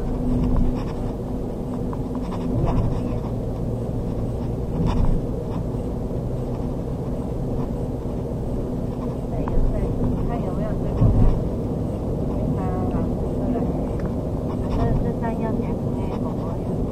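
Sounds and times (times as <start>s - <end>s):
car engine and tyre rumble: 0.0s - 16.9s.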